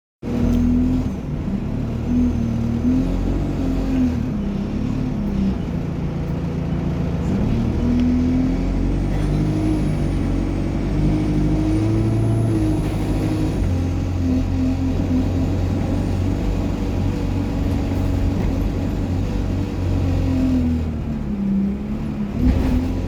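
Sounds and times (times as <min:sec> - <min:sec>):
bus diesel engine running: 0:00.2 - 0:23.0.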